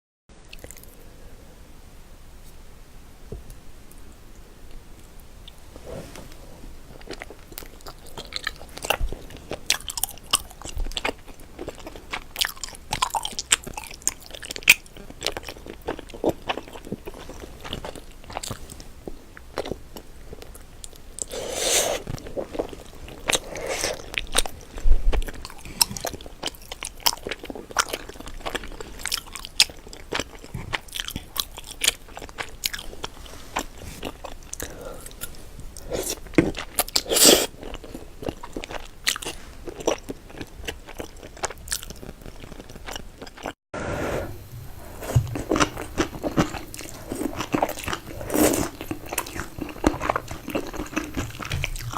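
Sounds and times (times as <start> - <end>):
crunchy biting and chewing: 6.9 - 43.6, 44.4 - 51.9.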